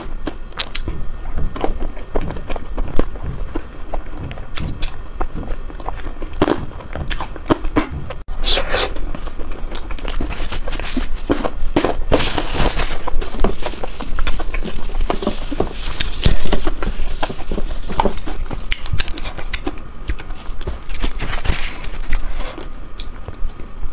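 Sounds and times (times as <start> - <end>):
chewing ice cream crunches: 0.0 - 23.7.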